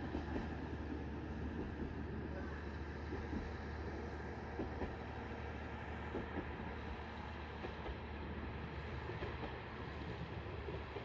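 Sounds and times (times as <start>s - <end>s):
distant diesel railcar drone: 0.0s - 11.0s.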